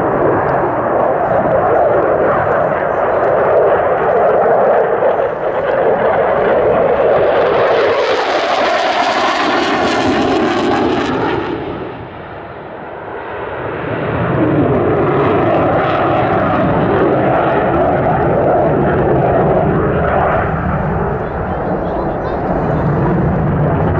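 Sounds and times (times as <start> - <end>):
jet engine roar: 0.0 - 23.9.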